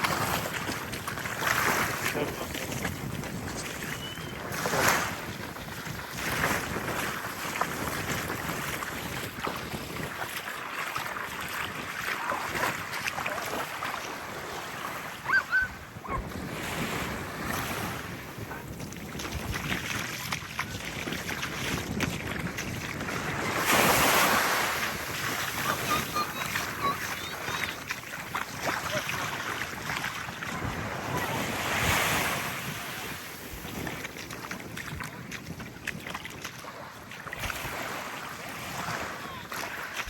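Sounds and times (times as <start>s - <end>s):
small waves lapping on beach: 0.0s - 40.0s
wind buffeting microphone: 0.0s - 40.0s.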